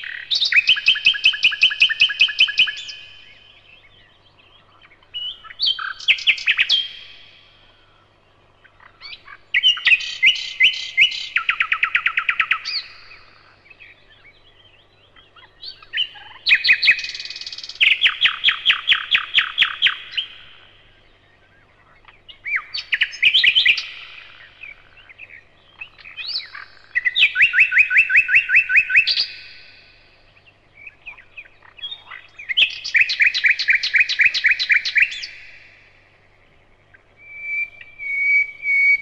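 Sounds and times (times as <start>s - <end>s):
nightingale singing: 0.0s - 39.0s.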